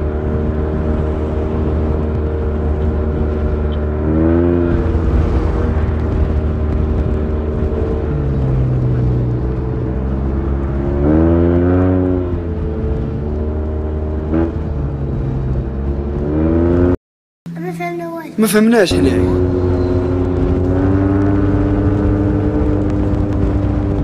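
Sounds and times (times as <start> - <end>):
motorcycle engine with throttle blips: 0.0 - 17.0, 19.0 - 24.0.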